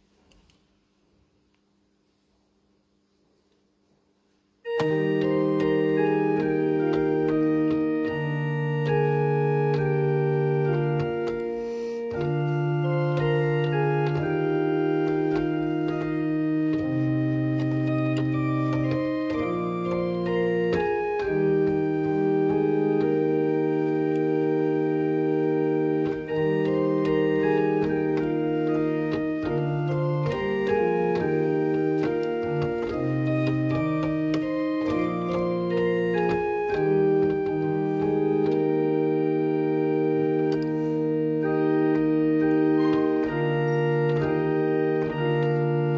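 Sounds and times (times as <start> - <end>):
organ playing chorale: 4.6 - 45.9.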